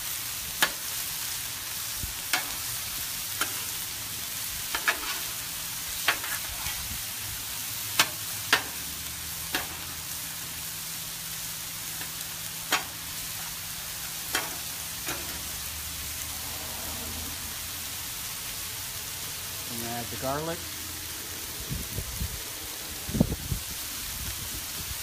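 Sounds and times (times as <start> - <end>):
food sizzling on griddle: 0.0 - 25.0.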